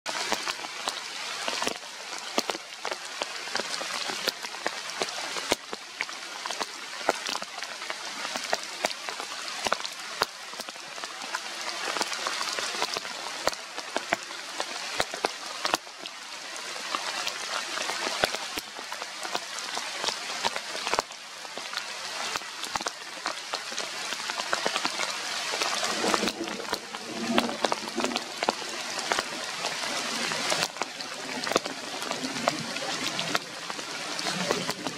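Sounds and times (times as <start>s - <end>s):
rain falling through foliage: 0.0s - 34.9s.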